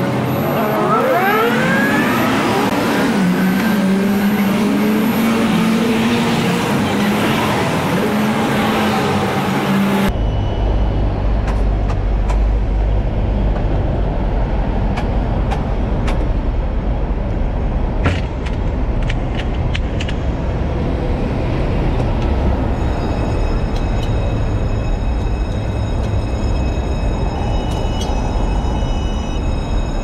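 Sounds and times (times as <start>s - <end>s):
tram cab low rumble: 0.0s - 30.0s.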